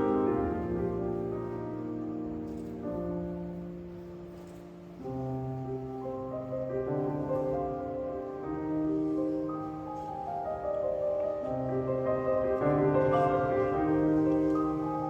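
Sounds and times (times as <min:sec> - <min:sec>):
piano trio playing classical piece: 0:00.0 - 0:15.0.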